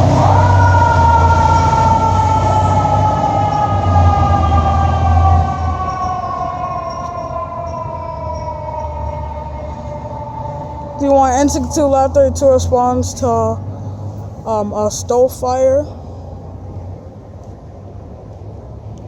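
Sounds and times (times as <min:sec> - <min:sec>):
fire truck mechanical siren wailing: 0:00.0 - 0:15.8
truck engine rumble: 0:00.0 - 0:19.0.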